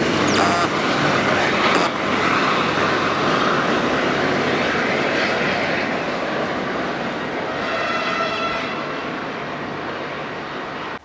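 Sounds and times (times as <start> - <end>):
diesel train engines running: 0.0 - 11.0.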